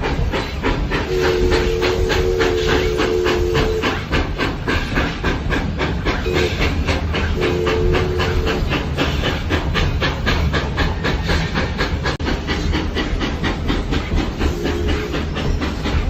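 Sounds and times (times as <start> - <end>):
train rumble and hiss: 0.0 - 16.0
train wheels clacking over rail joints: 0.0 - 16.0.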